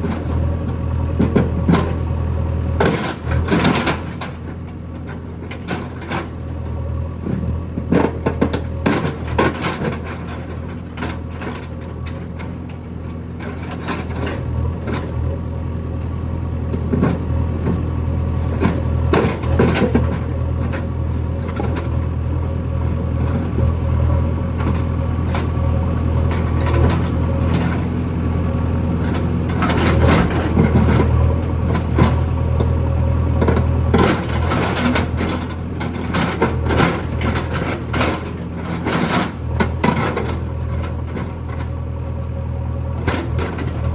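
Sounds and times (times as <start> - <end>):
diesel engine running: 0.0 - 43.9
digging knocks and clatter: 2.8 - 6.4, 7.2 - 15.3, 16.7 - 22.2, 22.9 - 41.7, 43.0 - 43.9.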